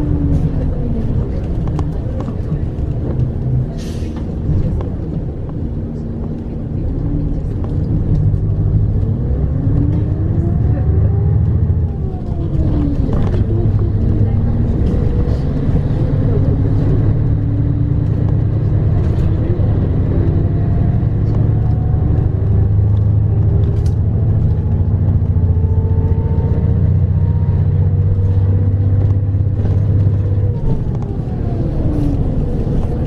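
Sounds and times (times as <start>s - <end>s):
faint vehicle whine: 0.0s - 33.0s
vehicle rumble from inside: 0.0s - 33.0s.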